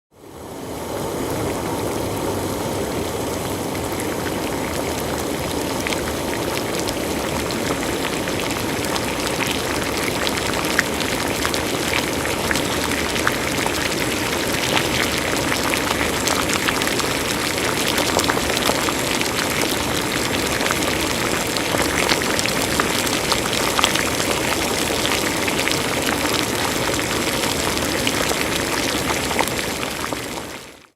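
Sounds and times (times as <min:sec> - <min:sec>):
water boiling: 0:00.1 - 0:30.9.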